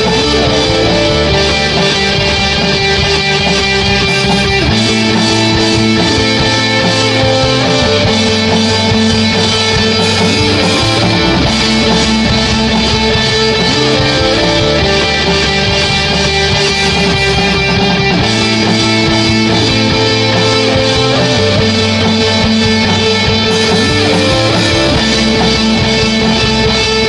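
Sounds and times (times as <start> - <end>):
electric guitar rock music: 0.0 - 27.0.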